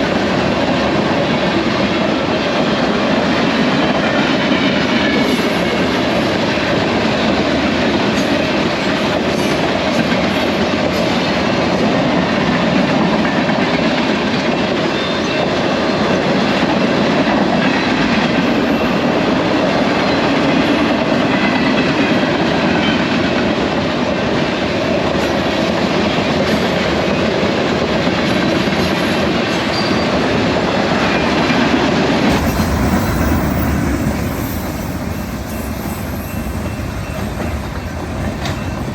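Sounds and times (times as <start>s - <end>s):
freight train cars roaring past: 0.0s - 38.9s.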